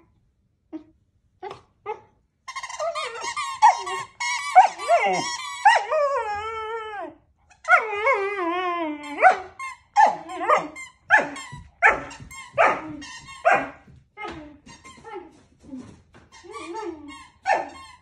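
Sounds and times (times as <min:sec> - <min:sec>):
puppy whining: 0:00.7 - 0:18.0.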